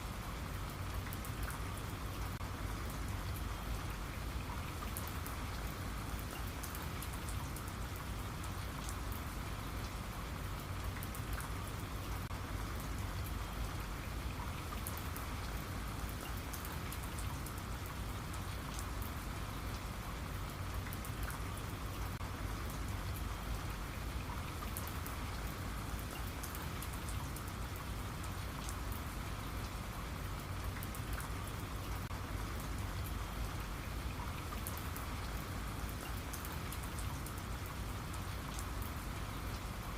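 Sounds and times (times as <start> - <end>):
raindrops pattering on a surface: 0.0 - 39.9
steady rainfall: 0.0 - 39.9.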